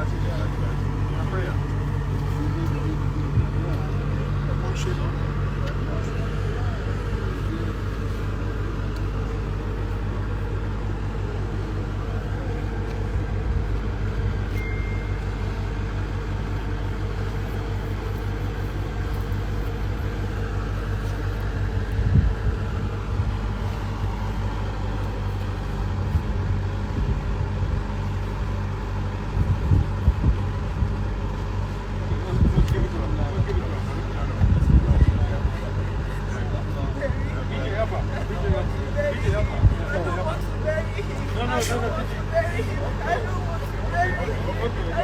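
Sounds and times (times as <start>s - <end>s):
motor vehicle rumble: 0.0s - 45.0s.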